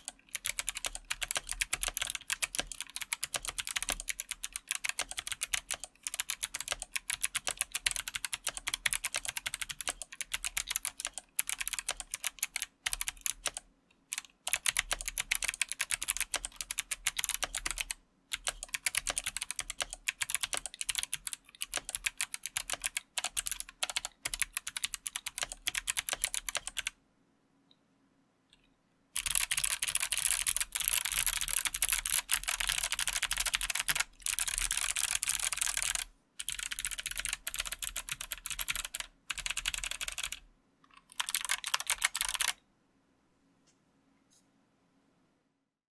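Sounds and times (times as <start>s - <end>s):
fast typing on mechanical keyboard: 0.0s - 26.9s, 29.2s - 42.6s.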